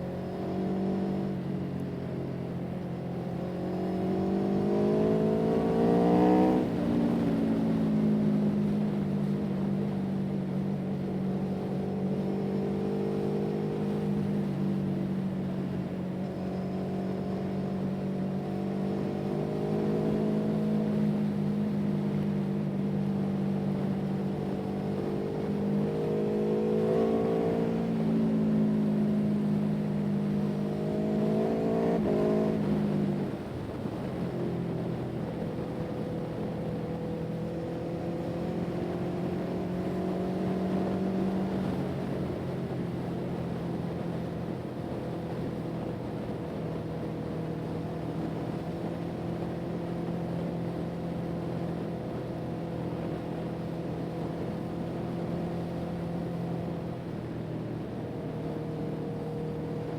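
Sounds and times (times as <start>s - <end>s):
engine running and revving: 0.0s - 59.9s.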